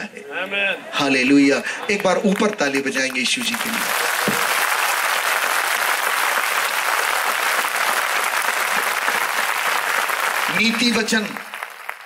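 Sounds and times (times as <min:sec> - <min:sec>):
audience clapping: 0:00.0 - 0:12.0.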